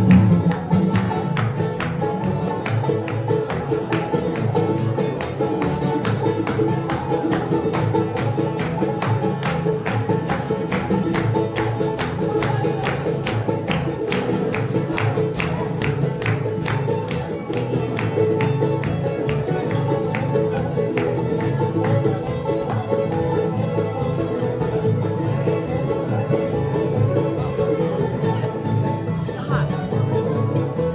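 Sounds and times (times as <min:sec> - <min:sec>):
bluegrass band playing: 0:00.0 - 0:30.9.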